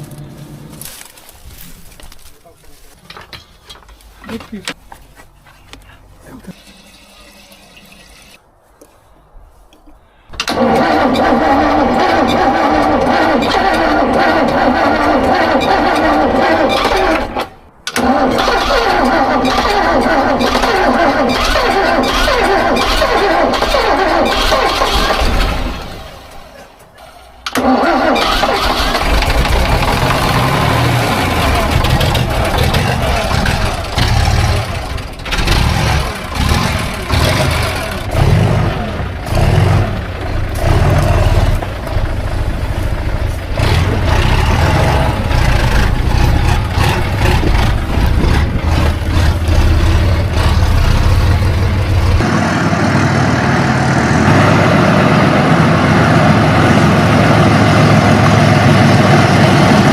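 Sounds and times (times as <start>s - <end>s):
diesel engine running unevenly: 10.4s - 59.9s.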